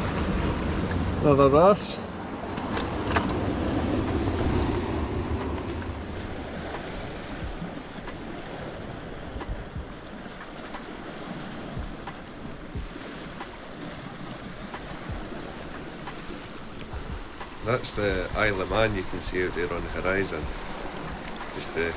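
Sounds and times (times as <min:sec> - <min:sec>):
waves washing against rocks: 0:00.0 - 0:21.9
wind buffeting microphone: 0:00.0 - 0:21.9.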